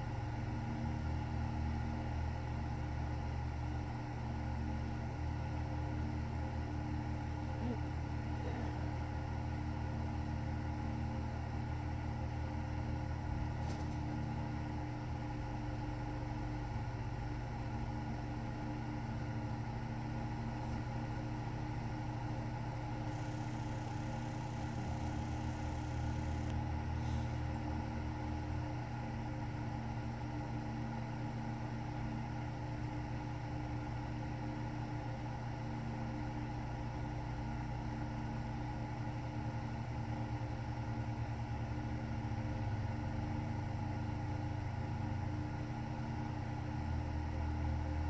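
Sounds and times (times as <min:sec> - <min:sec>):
low machine hum: 0:00.0 - 0:48.0.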